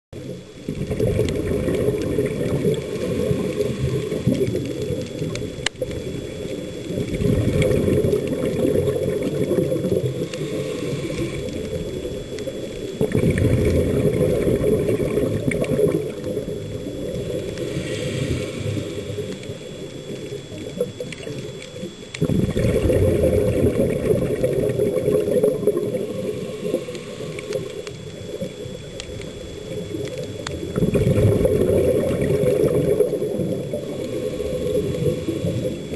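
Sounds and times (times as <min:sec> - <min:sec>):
underwater regulator bubbling breath: 0:00.6 - 0:35.9.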